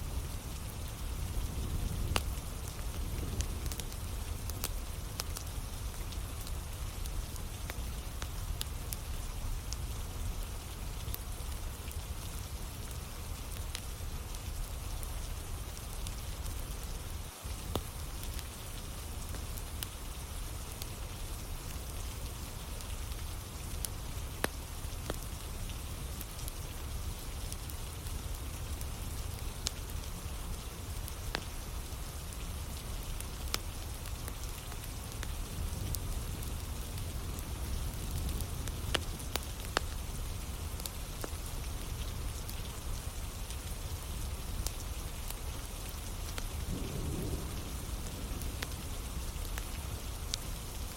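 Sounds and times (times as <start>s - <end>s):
burning firewood crackling: 0.0s - 50.9s
rain falling: 0.0s - 50.9s.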